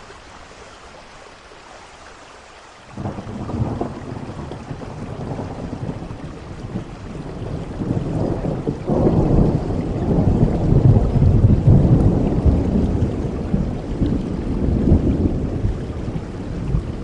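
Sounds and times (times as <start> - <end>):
steady rain: 0.0 - 17.0
thunder rumbling: 2.9 - 17.0.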